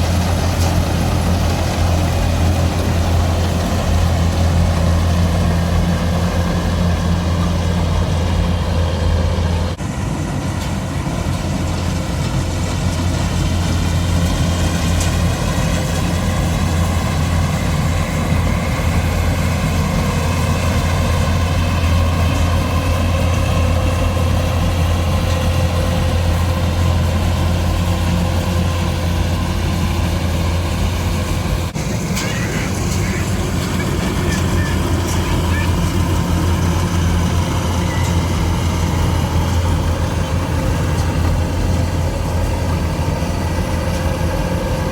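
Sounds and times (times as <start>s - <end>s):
combine harvester engine humming: 0.0s - 44.9s.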